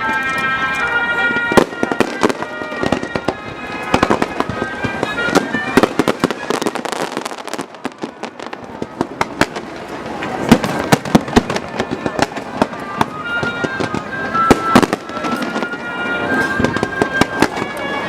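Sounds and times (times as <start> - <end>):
fireworks bangs and crackles: 0.0 - 18.0
high held stepping tones: 0.0 - 18.0.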